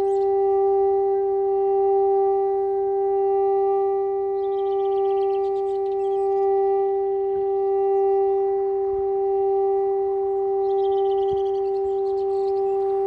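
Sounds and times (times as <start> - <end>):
conch shell horn note: 0.0 - 13.0.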